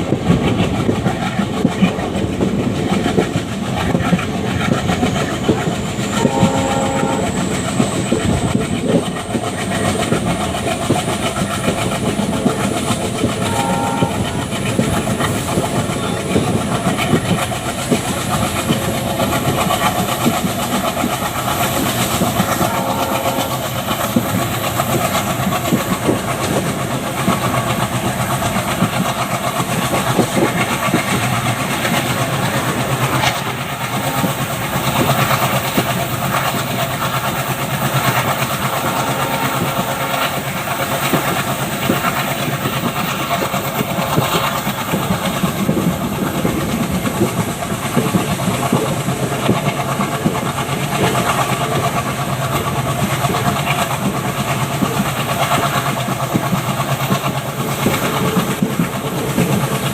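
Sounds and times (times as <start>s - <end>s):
wheel-on-rail clatter: 0.0s - 59.9s.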